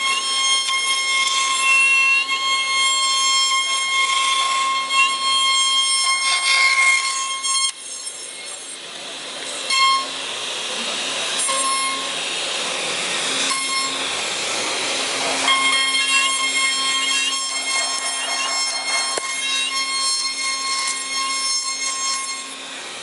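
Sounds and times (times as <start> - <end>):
router spindle whine: 0.0 - 23.0
bit cutting wood hiss: 0.1 - 23.0.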